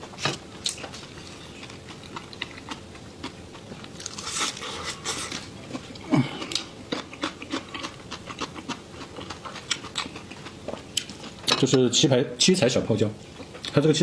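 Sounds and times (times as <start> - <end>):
crunching bites and chewing: 0.0 - 11.4.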